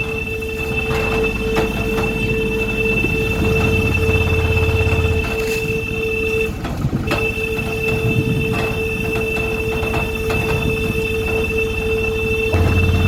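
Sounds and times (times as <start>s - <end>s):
two steady tones: 0.0s - 13.0s
vehicle engine rumble: 0.0s - 13.0s.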